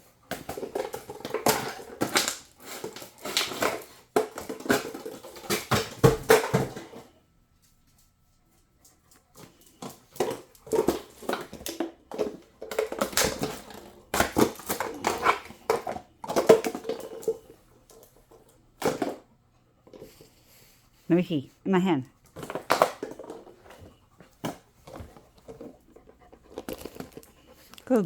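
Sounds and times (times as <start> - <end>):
dog crunching object in mouth: 0.2 - 7.0, 9.2 - 20.8, 22.2 - 28.0.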